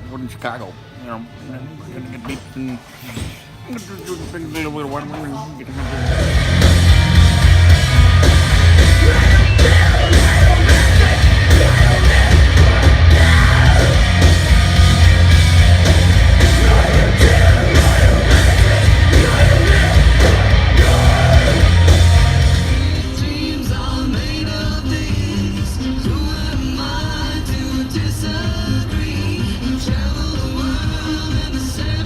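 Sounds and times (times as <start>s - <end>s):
driving drums: 5.7s - 32.0s
heavy rock music: 5.7s - 32.0s
yelled vocals: 5.7s - 32.0s.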